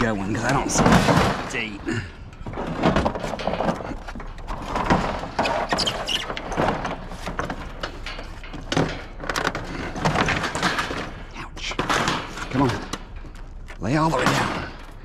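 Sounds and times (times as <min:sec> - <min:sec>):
scrap items knocking and rattling: 0:00.4 - 0:13.6.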